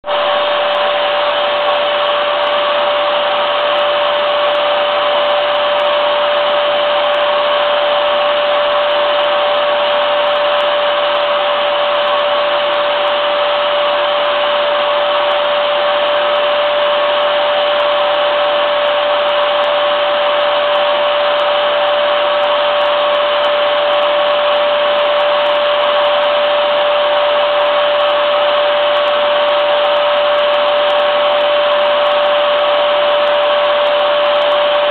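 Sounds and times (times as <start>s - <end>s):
vacuum cleaner motor running: 0.0s - 34.9s.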